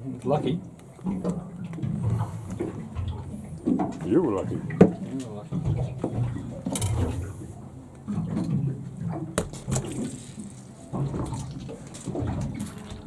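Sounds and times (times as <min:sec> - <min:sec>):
water slapping against boat hull: 0:00.0 - 0:13.0.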